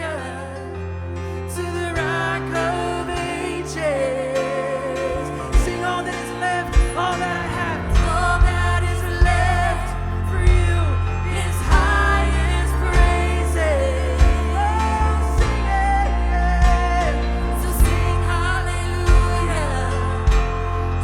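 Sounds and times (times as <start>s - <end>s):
live worship band playing: 0.0s - 21.0s
person singing: 0.0s - 21.0s.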